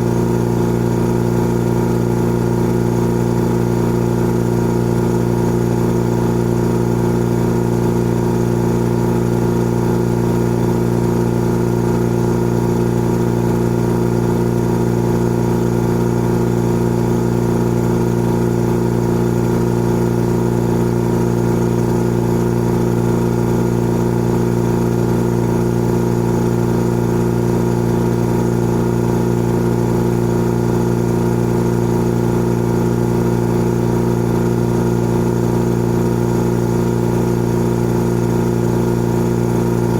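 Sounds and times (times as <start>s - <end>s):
air compressor motor hum: 0.0s - 39.9s.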